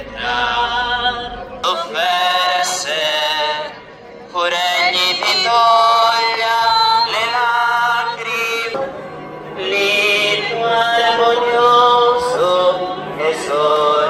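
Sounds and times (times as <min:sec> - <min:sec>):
hymn singing: 0:00.0 - 0:14.0.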